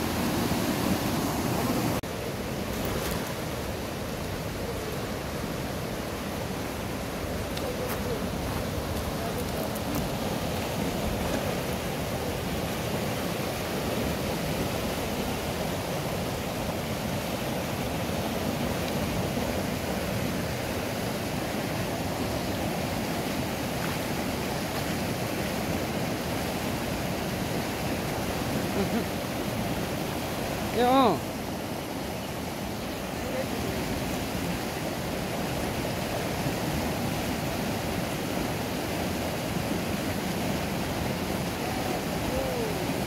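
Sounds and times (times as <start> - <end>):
river rushing over rocks: 0.0 - 43.0.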